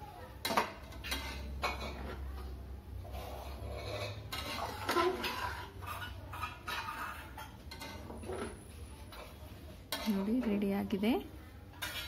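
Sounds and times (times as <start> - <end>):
spatula scraping metal pot: 0.5 - 10.5, 11.7 - 12.0.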